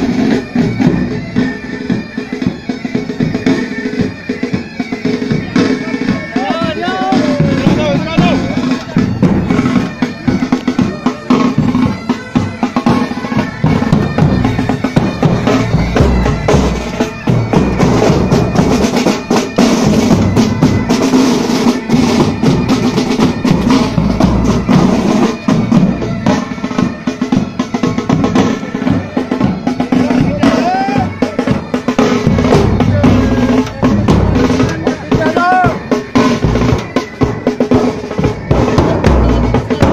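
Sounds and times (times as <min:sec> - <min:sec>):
bagpipes holding notes: 0:00.0 - 0:39.9
snare drums beating with rolls: 0:00.0 - 0:39.9
tenor and bass drum strokes: 0:05.3 - 0:39.9.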